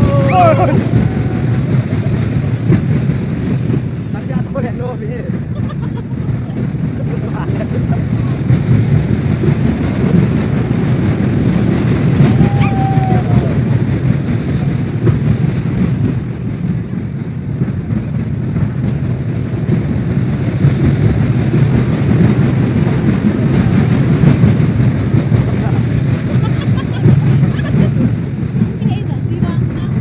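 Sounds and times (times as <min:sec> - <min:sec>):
fairground train ride rumbling: 0:00.0 - 0:30.0.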